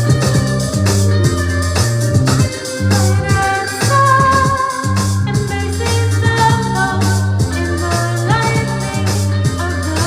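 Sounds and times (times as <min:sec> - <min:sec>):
music with held bass: 0:00.0 - 0:10.0.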